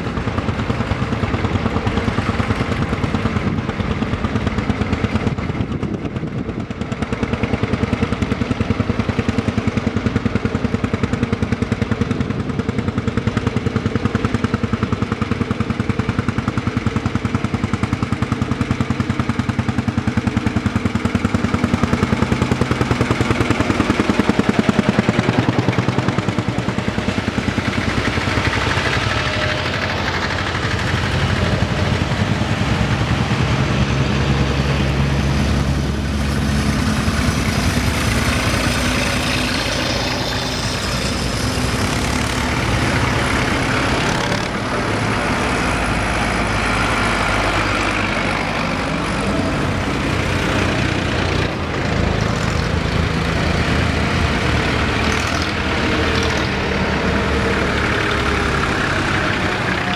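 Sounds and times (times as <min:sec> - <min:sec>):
tractor engines chugging: 0:00.0 - 0:59.9.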